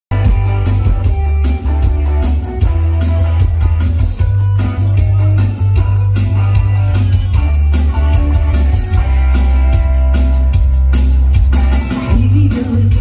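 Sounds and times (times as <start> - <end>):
live rock band playing loud: 0.1 - 13.0.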